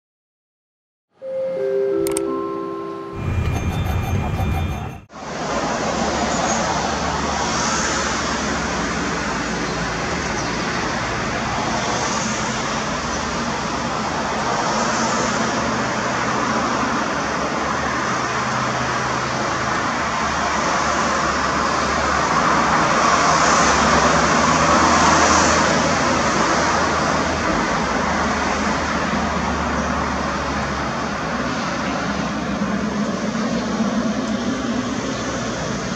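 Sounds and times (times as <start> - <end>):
engine and traffic noise: 1.3 - 35.9.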